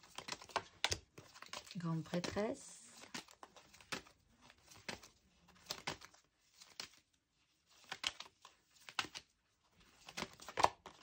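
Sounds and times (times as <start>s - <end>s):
cards flicking and sliding: 0.0s - 2.4s, 3.0s - 11.0s.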